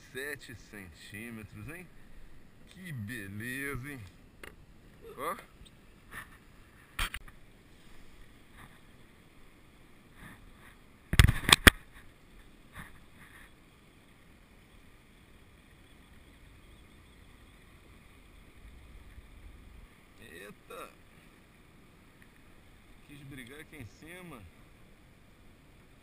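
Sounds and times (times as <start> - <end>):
faint water noise: 0.0 - 26.0.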